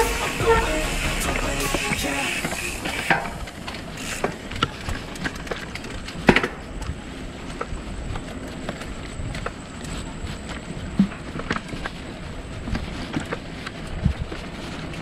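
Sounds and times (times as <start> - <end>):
mountain bike rolling on dirt: 0.0 - 15.0
bike rattling over bumps: 2.4 - 15.0.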